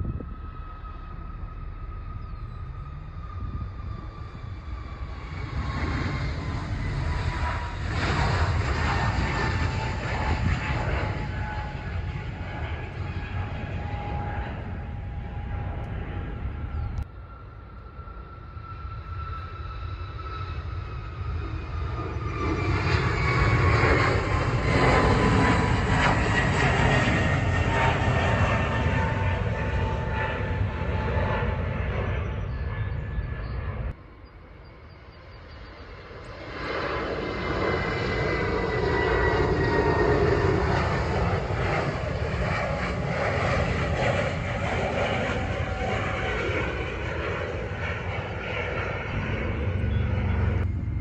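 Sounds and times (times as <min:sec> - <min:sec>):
jet engines roaring at takeoff: 0:00.0 - 0:51.0.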